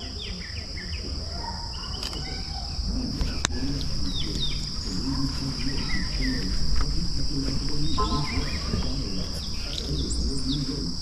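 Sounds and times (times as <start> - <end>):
birds chirping: 0.0 - 11.0
insect chorus: 0.0 - 11.0.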